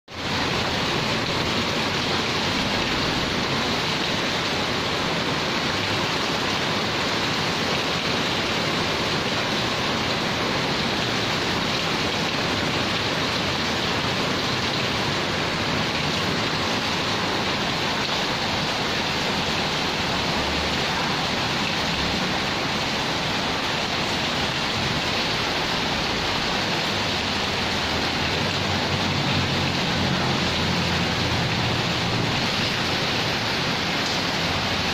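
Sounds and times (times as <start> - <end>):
heavy rain on concrete: 0.1 - 34.9.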